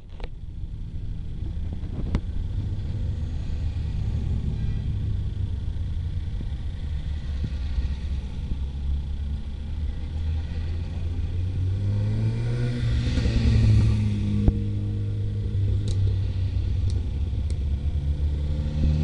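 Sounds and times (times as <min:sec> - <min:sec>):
car engine revving: 0:00.6 - 0:19.0
cars driving past: 0:01.5 - 0:19.0.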